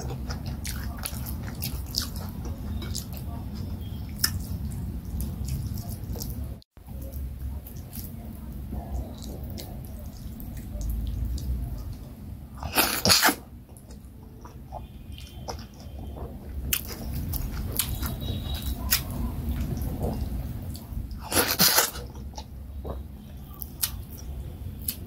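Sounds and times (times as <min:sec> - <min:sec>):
wet mouth eating sounds: 0:00.0 - 0:08.2, 0:12.6 - 0:25.0.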